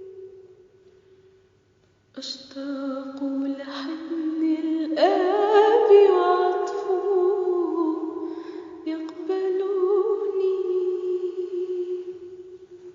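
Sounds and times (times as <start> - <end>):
woman singing with vibrato: 0.0 - 0.6, 2.2 - 12.9.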